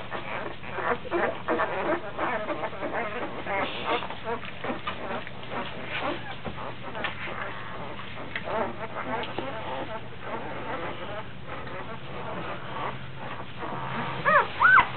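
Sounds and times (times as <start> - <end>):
puppies squeaking and squealing: 0.0 - 14.9.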